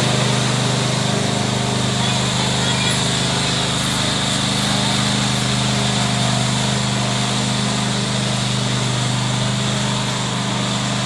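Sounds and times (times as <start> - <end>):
riding lawn mower engine: 0.0 - 11.0.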